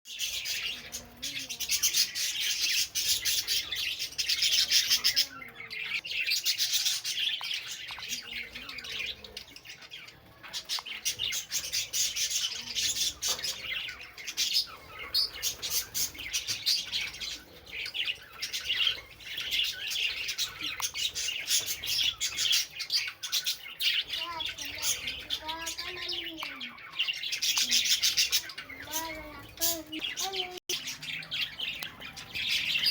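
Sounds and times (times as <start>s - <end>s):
lovebirds chirping: 0.1s - 32.9s.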